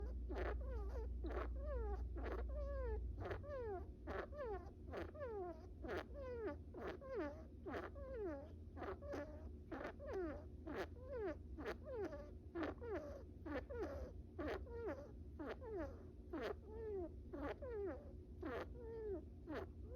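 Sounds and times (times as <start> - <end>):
rat snoring: 0.0 - 19.9.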